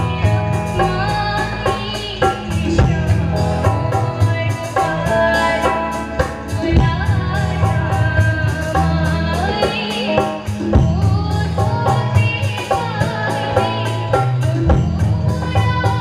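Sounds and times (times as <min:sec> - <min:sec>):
barrel drum beat: 0:00.0 - 0:16.0
woman singing folk song: 0:00.0 - 0:16.0.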